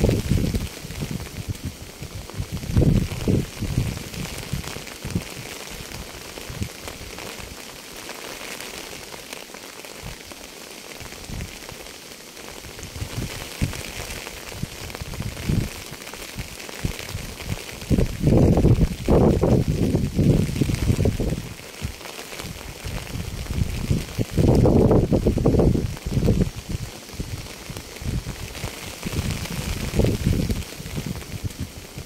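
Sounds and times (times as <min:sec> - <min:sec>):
steady rainfall hissing: 0:00.0 - 0:32.0.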